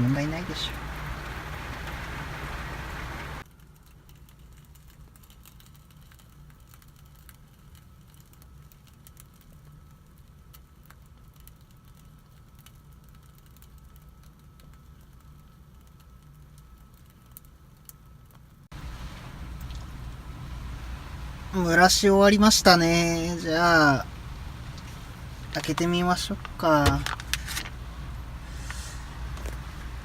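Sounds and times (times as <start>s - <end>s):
rain on a car: 0.0s - 30.0s.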